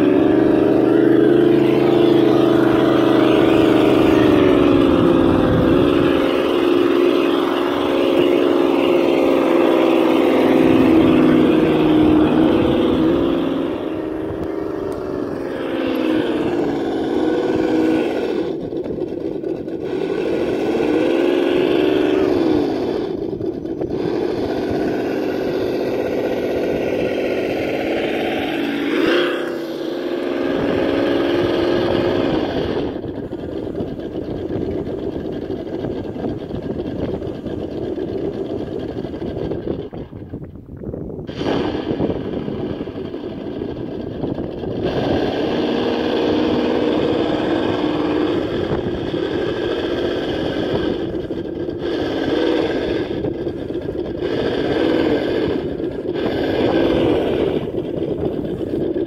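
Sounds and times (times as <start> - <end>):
toy truck drivetrain whine: 0.0 - 59.0.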